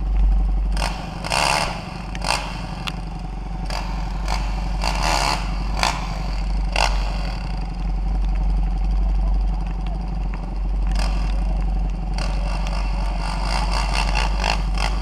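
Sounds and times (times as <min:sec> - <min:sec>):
dirt bike engines idling: 0:00.0 - 0:15.0.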